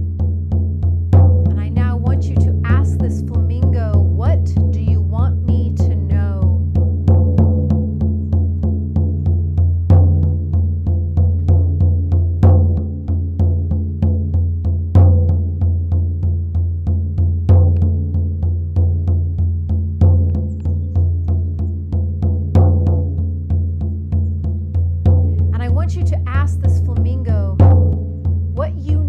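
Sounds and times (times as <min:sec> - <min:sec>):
frame drum beating: 0:00.0 - 0:29.0.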